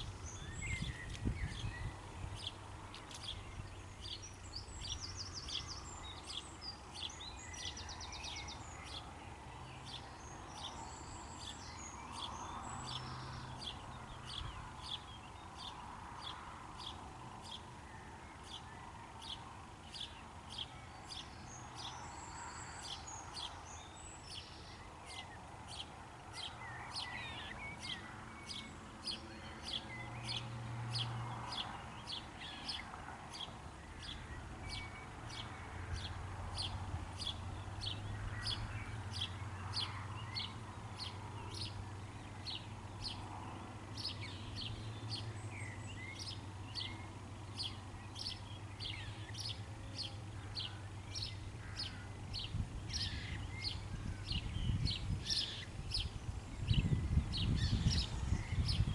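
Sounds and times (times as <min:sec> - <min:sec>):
faint background noise: 0:00.0 - 0:58.9
songbirds chirping: 0:00.0 - 0:58.9.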